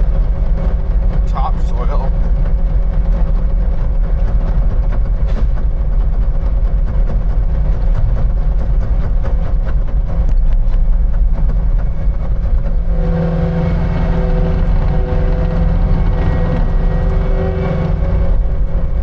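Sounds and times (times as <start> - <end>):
heavy machine engine rumbling: 0.0 - 19.0.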